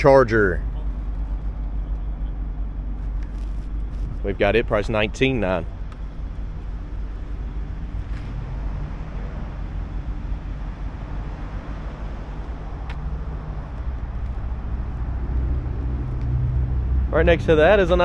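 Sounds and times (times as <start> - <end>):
low rumble of motor vehicles: 0.0 - 18.0.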